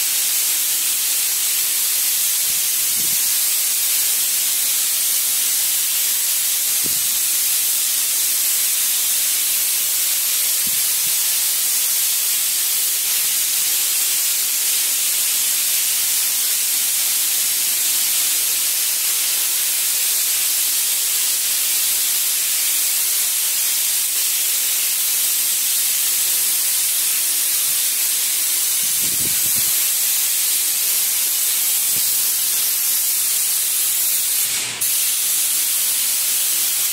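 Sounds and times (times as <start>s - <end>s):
spray gun hissing: 0.0s - 36.9s.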